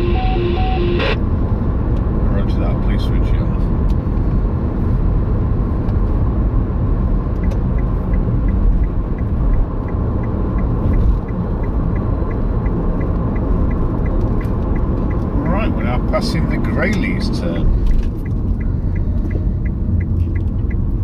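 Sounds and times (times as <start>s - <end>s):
turn signal ticking: 0.0s - 2.1s, 5.2s - 21.0s
car engine rumble: 0.0s - 21.0s.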